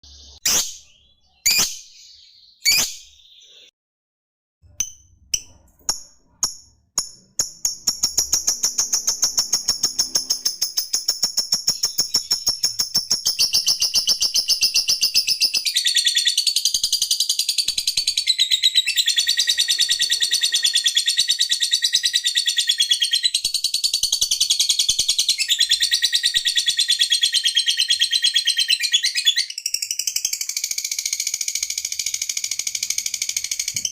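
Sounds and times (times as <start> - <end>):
lovebird chirping: 0.0 - 3.7, 4.7 - 33.9.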